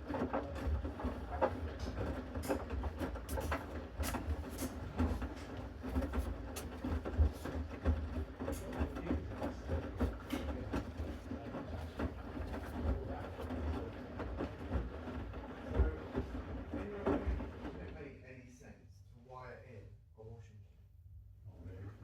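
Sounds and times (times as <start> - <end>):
wet laundry knocking in drum: 0.0 - 17.8
washing machine motor hum: 0.0 - 18.5.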